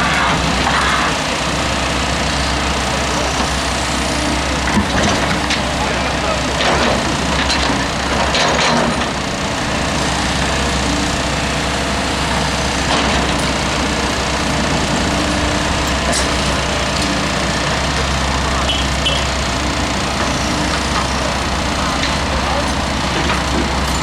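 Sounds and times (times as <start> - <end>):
excavator engine droning: 0.0 - 24.0.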